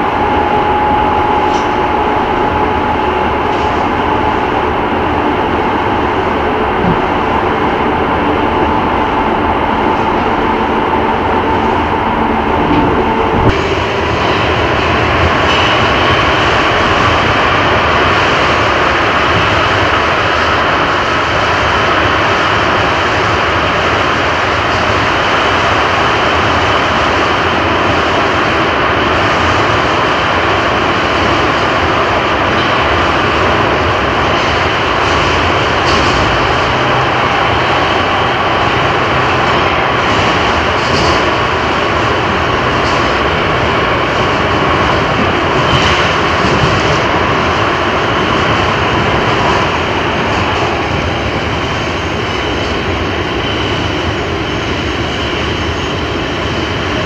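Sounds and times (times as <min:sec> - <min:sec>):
electric train rumble: 0:00.0 - 0:57.0.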